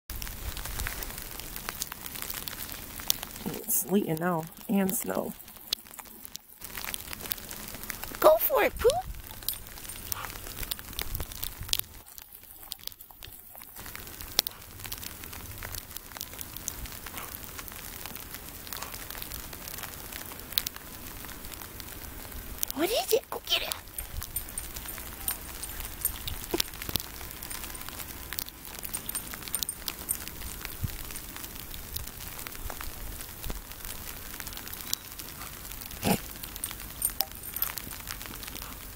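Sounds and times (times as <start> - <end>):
sleet and wet snow ticking: 0.1 - 38.9.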